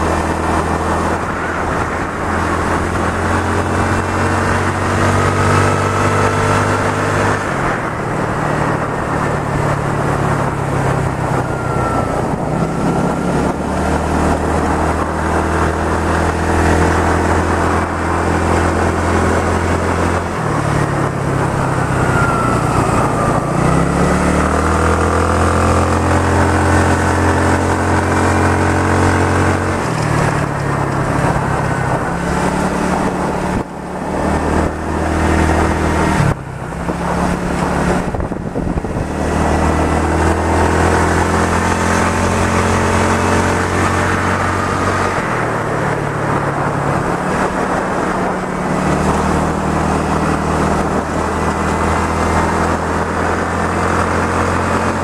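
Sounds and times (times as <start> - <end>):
motorcycle engine revving: 0.0 - 55.0
road and wind noise: 0.0 - 55.0.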